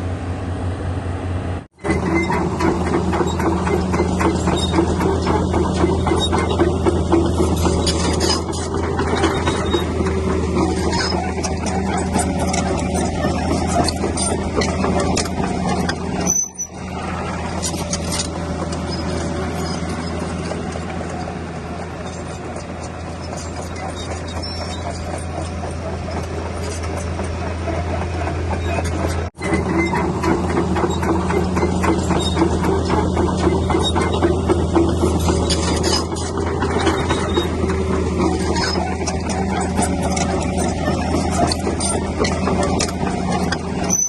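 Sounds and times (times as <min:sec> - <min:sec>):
excavator diesel engine running: 0:00.0 - 0:44.0
machine squeaks and clicks: 0:01.7 - 0:44.0.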